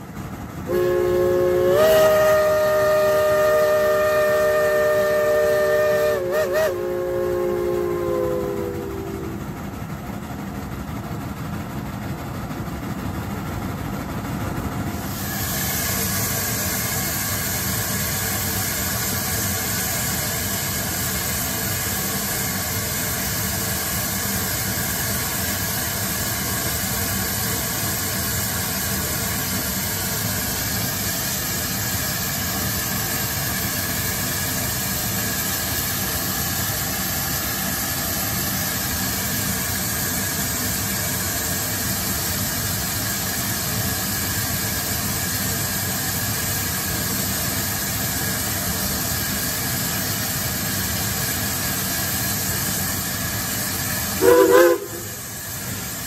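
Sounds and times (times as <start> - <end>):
steam train hiss and rumble: 0.0 - 56.0.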